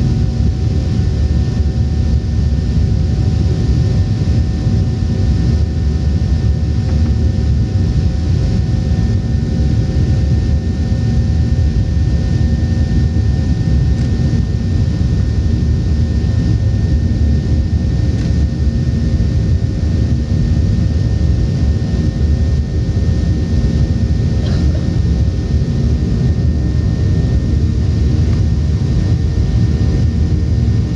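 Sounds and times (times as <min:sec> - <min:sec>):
jet engine cabin rumble: 0:00.0 - 0:30.9.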